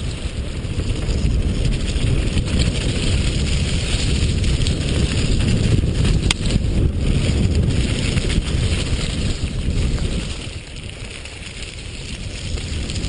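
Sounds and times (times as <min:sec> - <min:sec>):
bike rattling: 0:00.0 - 0:13.0
tyres rushing on gravel: 0:00.0 - 0:13.0
wind buffeting microphone: 0:00.0 - 0:13.0.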